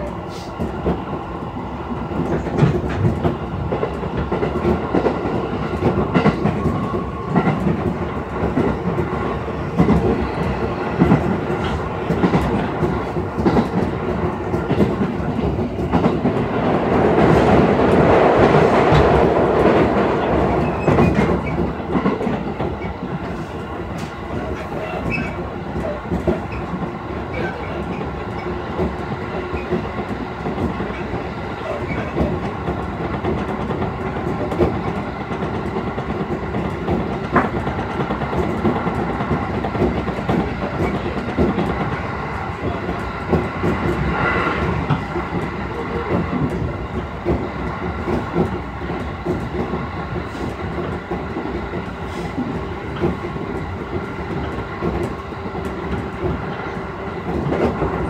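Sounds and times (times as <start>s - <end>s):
rail joint clicks: 0.0s - 58.0s
train wheels rumbling on rail: 0.0s - 58.0s.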